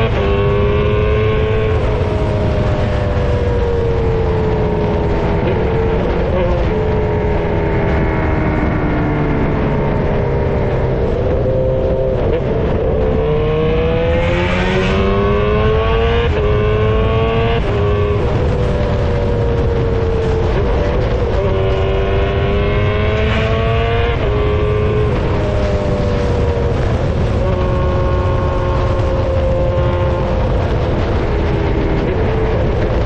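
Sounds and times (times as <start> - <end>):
motorcycle engine shifting gears: 0.0 - 33.0.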